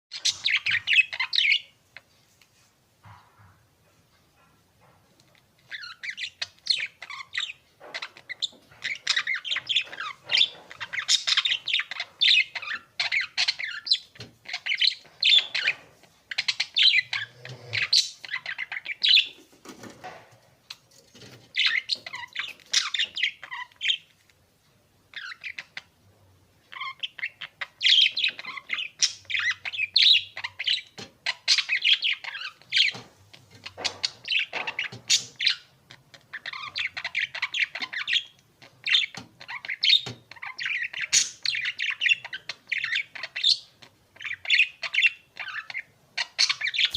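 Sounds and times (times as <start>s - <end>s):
birds chirping: 0.1s - 2.2s, 3.0s - 24.3s, 25.1s - 46.9s.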